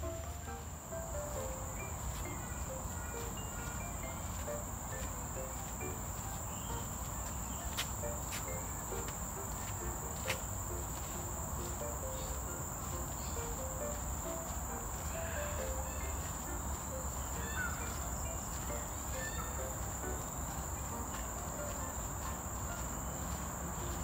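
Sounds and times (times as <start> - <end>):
high-pitched insect drone: 0.0 - 24.0
soft background music: 0.0 - 24.0.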